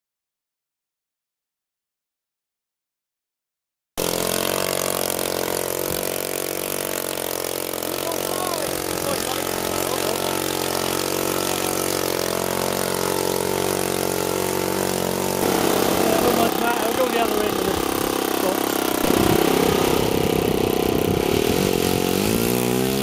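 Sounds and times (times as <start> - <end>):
model aircraft engine idling: 4.0 - 23.0.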